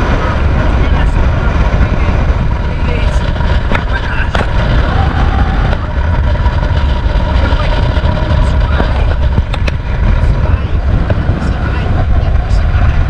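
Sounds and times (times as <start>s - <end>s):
faint steady drone: 0.0s - 13.0s
wind buffeting microphone: 0.0s - 13.0s.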